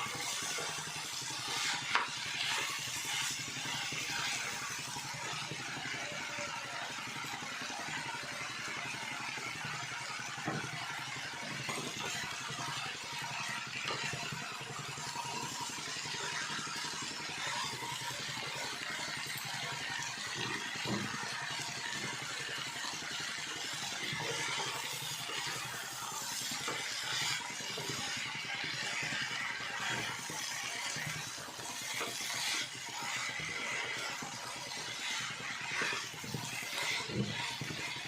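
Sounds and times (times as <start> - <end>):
food hissing on stove: 0.0 - 6.4, 11.2 - 38.0.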